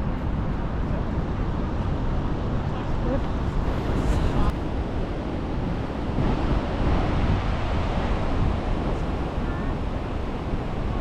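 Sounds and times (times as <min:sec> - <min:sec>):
waterfall roar: 0:00.0 - 0:11.0
wind buffeting microphone: 0:00.0 - 0:11.0.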